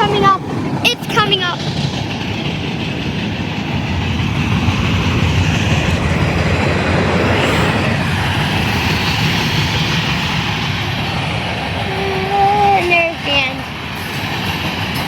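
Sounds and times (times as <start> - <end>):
freight train rumbling past: 0.0 - 15.0
wheels clacking over rail joints: 0.0 - 15.0.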